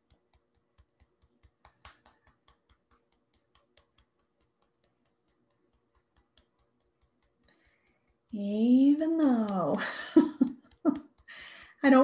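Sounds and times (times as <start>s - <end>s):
fingertip taps on hand: 0.0s - 11.8s.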